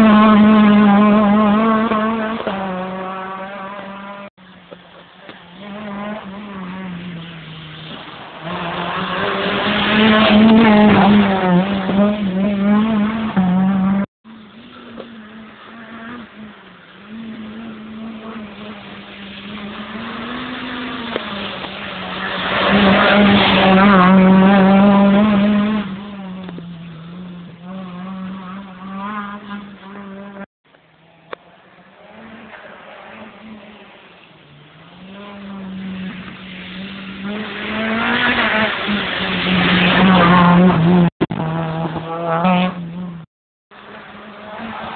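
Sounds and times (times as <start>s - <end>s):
rally car engine revving past: 0.0s - 4.3s, 5.5s - 30.5s, 34.6s - 43.3s.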